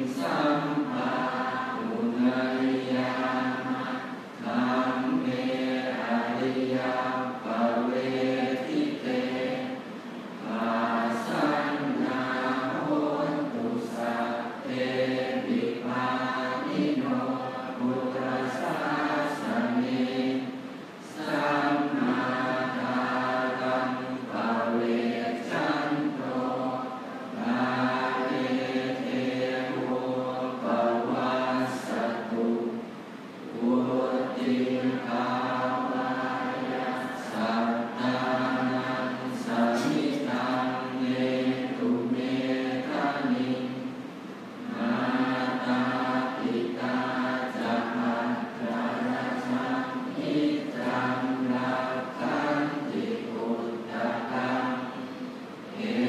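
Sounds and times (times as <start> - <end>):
monks chanting in unison: 0.0 - 56.0.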